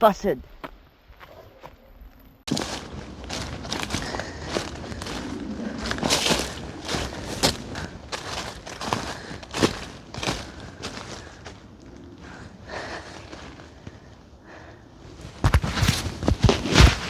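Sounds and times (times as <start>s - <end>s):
footsteps crunching on forest floor: 2.5s - 17.0s.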